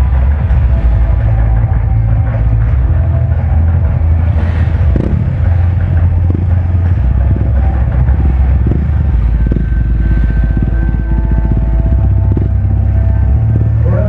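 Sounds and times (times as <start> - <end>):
bass-heavy music: 0.0 - 14.0
motorcycle engines revving: 0.0 - 14.0.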